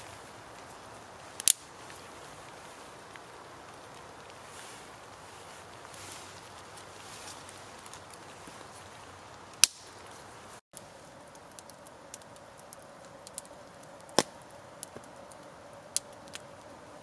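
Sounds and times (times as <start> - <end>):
campfire hissing: 0.0 - 17.0
fire crackles and pops: 0.0 - 17.0.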